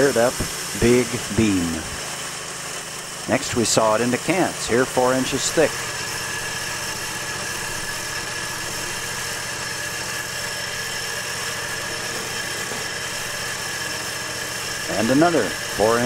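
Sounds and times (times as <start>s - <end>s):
sawmill engine sawing log: 0.0s - 16.0s.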